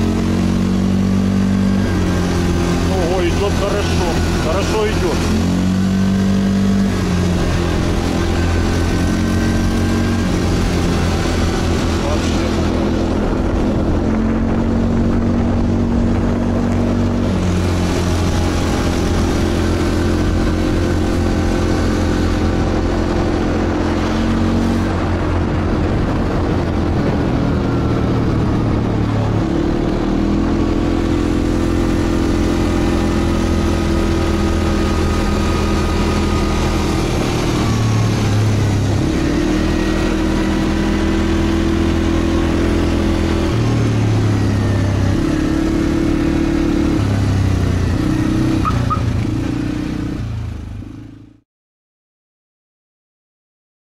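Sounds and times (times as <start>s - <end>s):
quad bike engine running: 0.0s - 51.4s
road and wind noise: 0.0s - 51.4s.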